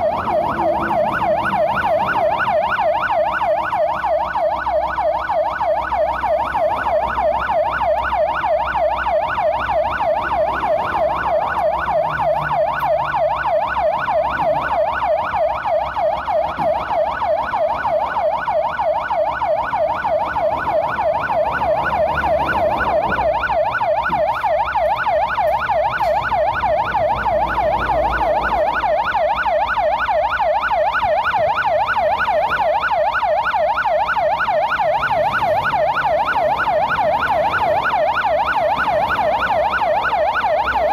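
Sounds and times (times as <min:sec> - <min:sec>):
police siren yelping: 0:00.0 - 0:40.9.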